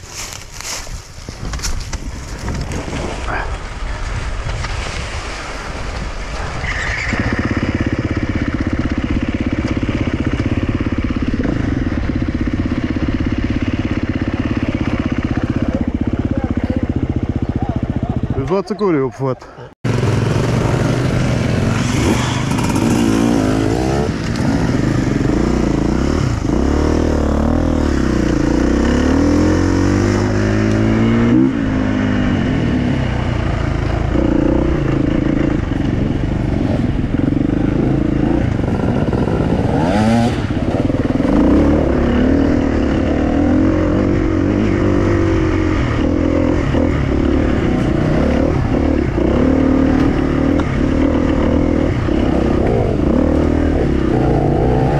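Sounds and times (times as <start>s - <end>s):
motorcycle engine revving: 7.0s - 18.6s, 19.8s - 54.9s.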